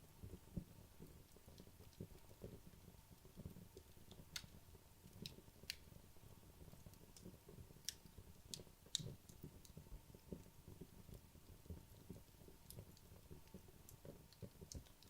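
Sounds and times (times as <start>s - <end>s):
fire crackling and popping: 0.1s - 15.0s.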